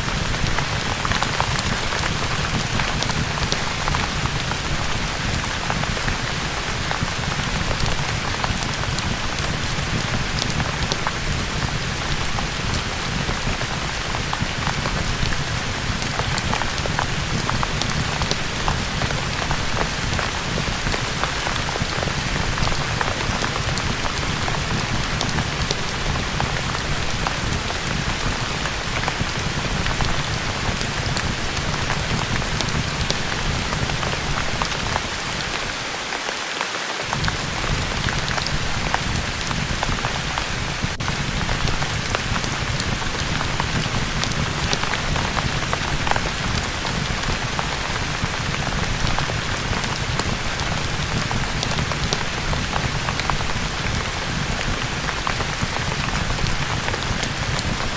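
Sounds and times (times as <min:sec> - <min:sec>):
steady rain on a surface: 0:00.0 - 0:57.9.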